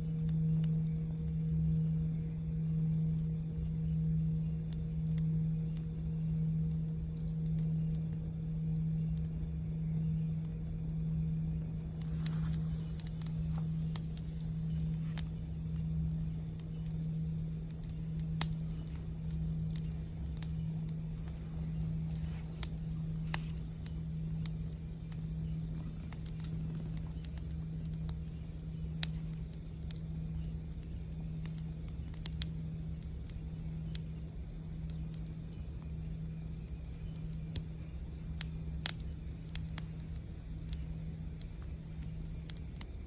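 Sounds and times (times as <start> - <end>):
campfire crackling: 0.0 - 43.0
singing bowl hum: 0.0 - 43.0.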